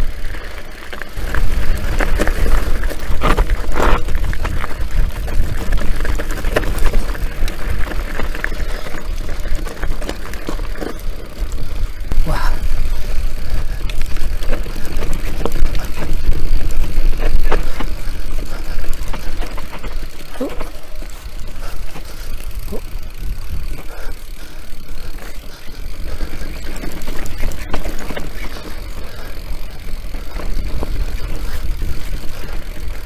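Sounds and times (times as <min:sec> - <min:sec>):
bike knocks and rattles: 0:00.0 - 0:33.0
tyres rolling over stones: 0:00.0 - 0:33.0
wind rumbling on microphone: 0:00.0 - 0:33.0.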